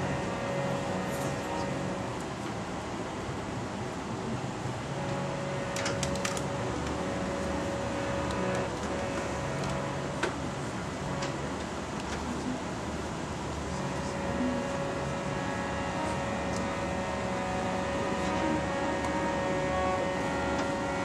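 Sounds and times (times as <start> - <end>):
ventilation hum: 0.0 - 21.0.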